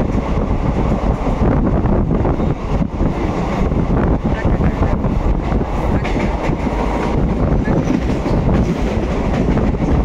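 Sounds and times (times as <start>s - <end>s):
train rolling rumble: 0.0s - 10.0s.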